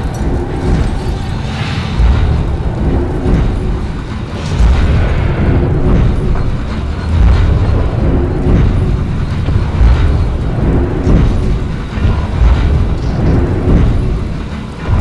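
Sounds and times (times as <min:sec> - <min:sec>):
explosion booms: 0:00.0 - 0:14.2
heavy rumble: 0:00.0 - 0:15.0.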